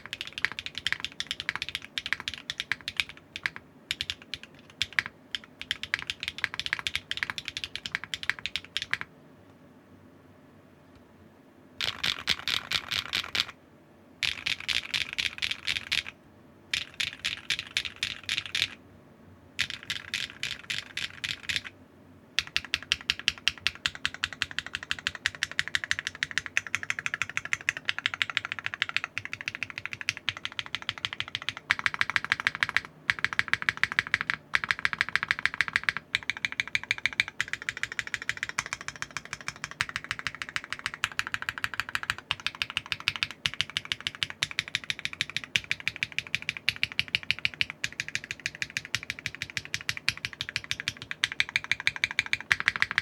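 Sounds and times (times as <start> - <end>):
fast mechanical keyboard typing: 0.0 - 9.1, 11.8 - 13.6, 14.2 - 18.8, 19.6 - 21.7, 22.4 - 53.0.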